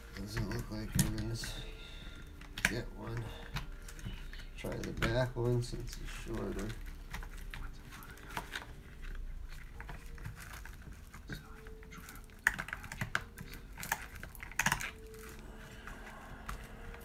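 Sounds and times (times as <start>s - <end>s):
plastic and metal parts clicking: 0.1s - 15.4s.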